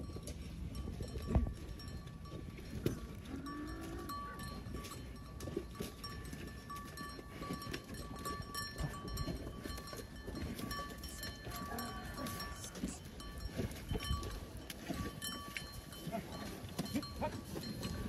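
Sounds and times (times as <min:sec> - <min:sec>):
hooves squelching in mud: 0:00.0 - 0:18.0
ox bell ringing: 0:00.0 - 0:18.0.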